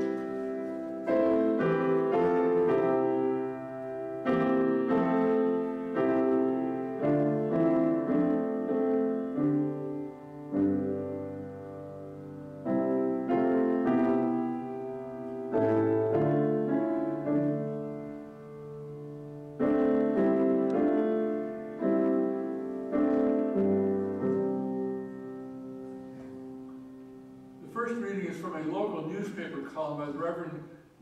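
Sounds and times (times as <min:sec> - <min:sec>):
piano playing slow chords: 0:00.0 - 0:28.9.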